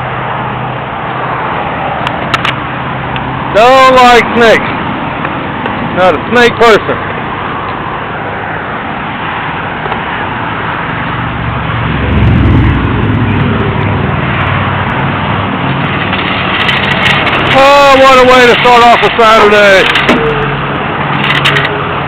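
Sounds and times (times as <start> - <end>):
highway traffic passing: 0.0 - 22.0
vehicle engine drone passing close: 4.2 - 22.0.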